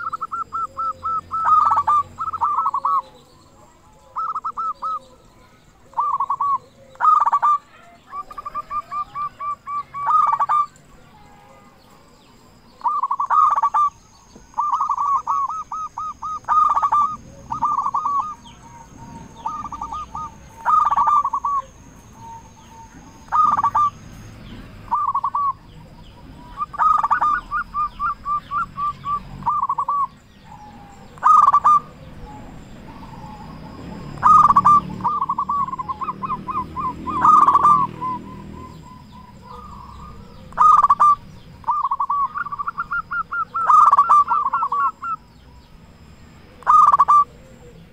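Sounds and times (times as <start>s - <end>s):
dove cooing: 0.0s - 12.0s, 12.7s - 47.9s.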